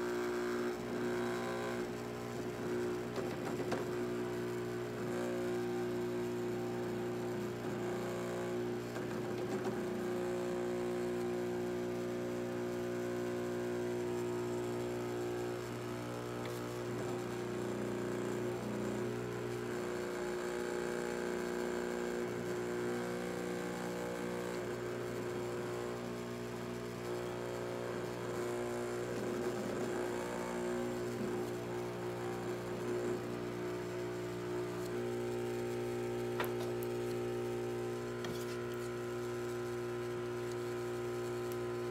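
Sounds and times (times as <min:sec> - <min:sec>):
vibrator buzzing with hum: 0:00.0 - 0:41.9.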